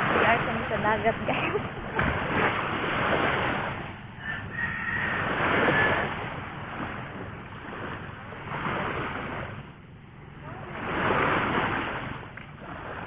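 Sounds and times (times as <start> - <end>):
wind on microphone: 0.0 - 9.8, 10.4 - 13.0
sea surf washing on shore: 0.0 - 13.0.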